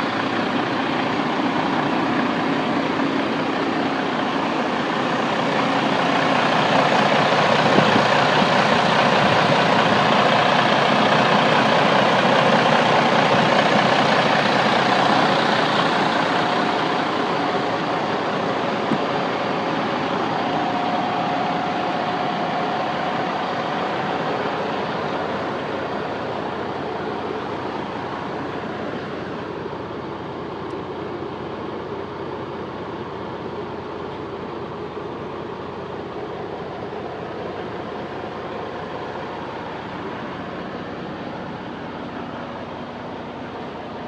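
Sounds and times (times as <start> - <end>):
truck diesel engine drone: 0.0 - 44.0.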